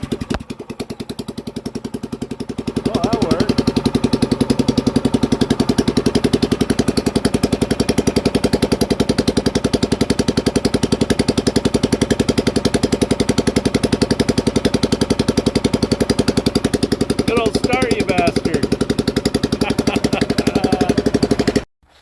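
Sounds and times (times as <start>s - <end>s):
small gasoline engine running: 0.0s - 21.7s.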